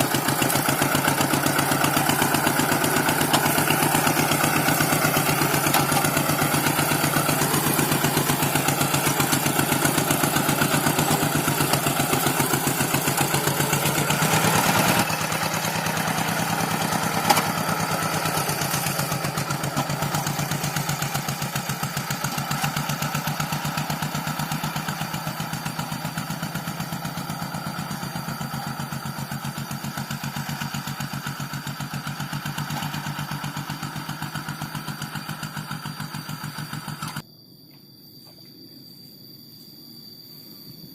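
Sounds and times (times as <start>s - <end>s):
tractor engine running: 0.0s - 37.2s.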